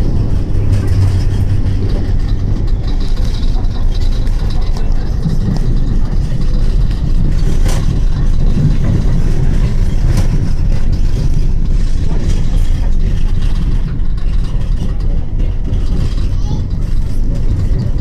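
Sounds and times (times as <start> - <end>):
train wheels and motors rumbling: 0.0 - 18.0
wheels clicking over rail joints: 0.0 - 18.0.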